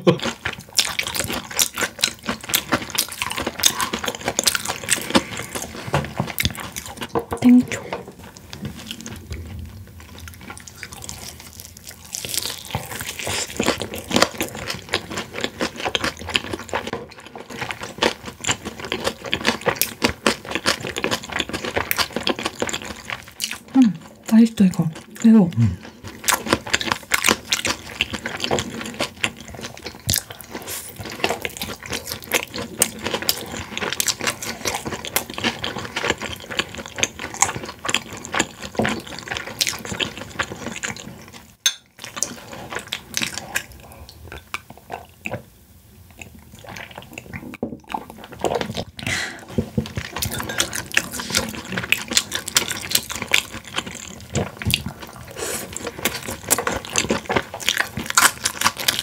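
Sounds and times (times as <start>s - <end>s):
crunchy chewing: 0.2s - 7.1s, 8.2s - 24.2s, 25.8s - 45.3s, 46.1s - 59.0s.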